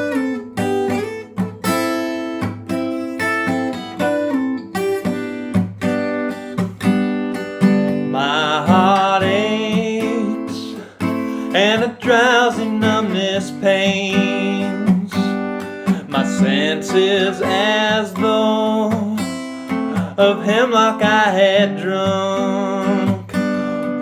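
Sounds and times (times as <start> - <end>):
acoustic guitar strummed: 0.0 - 24.0.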